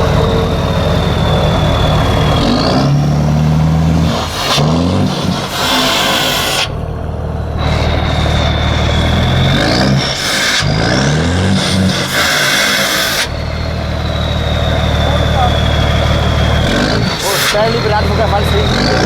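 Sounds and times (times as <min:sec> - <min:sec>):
diesel truck engine revving: 0:00.0 - 0:19.0
thin high engine whine: 0:00.0 - 0:19.0.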